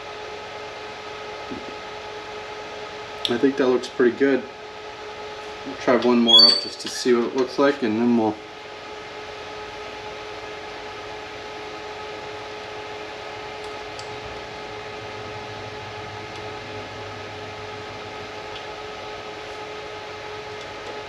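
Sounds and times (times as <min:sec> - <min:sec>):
fan noise: 0:00.0 - 0:21.0.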